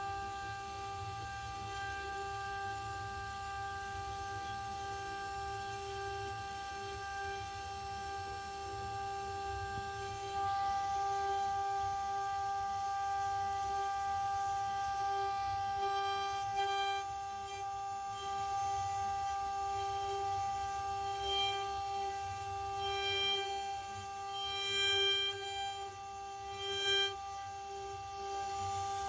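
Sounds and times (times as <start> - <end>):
router spindle high-pitched whine: 0.0 - 29.0.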